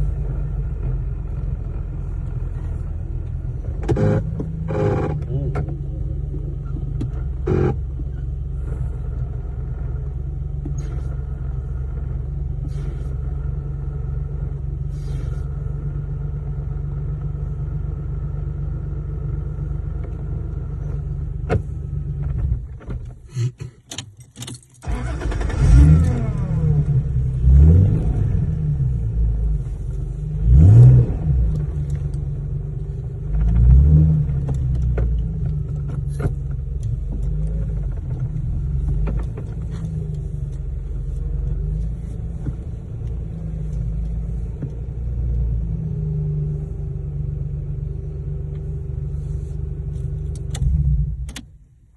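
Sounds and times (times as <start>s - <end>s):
car engine revving: 0.0s - 17.6s, 24.8s - 51.4s
car engine running: 0.0s - 51.9s.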